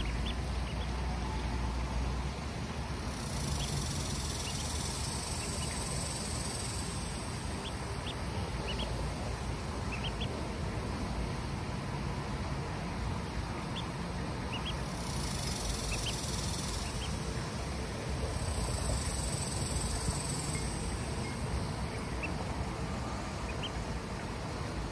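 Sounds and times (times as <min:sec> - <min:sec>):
ducklings peeping: 0:00.0 - 0:11.4, 0:12.2 - 0:24.9.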